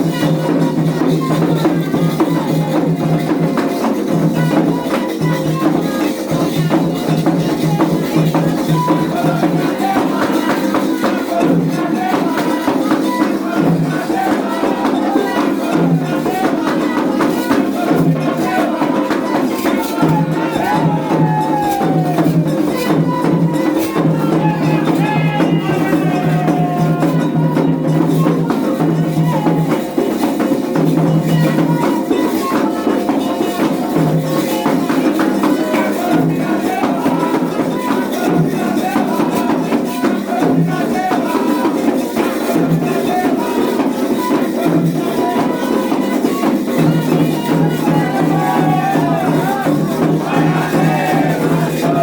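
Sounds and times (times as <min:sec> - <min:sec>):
people's voices: 0:00.0 - 0:52.0
percussion music with shakers and drums: 0:00.0 - 0:52.0.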